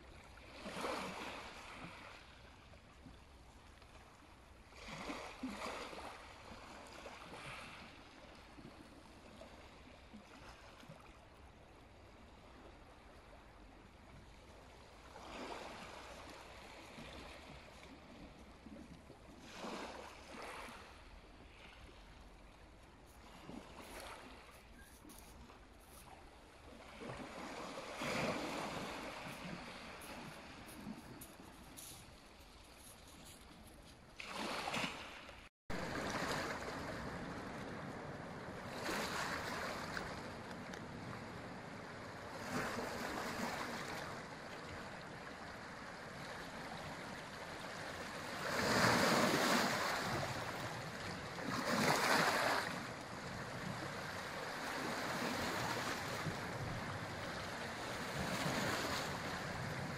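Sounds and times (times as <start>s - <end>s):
small sea waves lapping: 0.0s - 59.9s.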